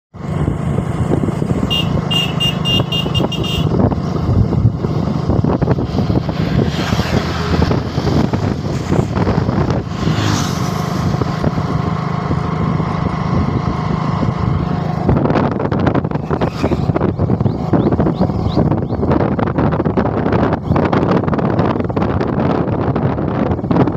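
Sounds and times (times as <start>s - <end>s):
wind and road noise: 0.1s - 23.9s
motorcycle engine running: 0.2s - 23.9s.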